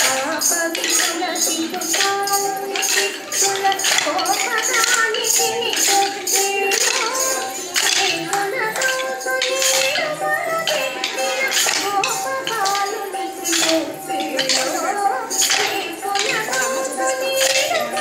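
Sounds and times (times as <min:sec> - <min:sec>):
devotional dance music melody: 0:00.0 - 0:18.0
jingling tambourine-like percussion: 0:00.0 - 0:18.0.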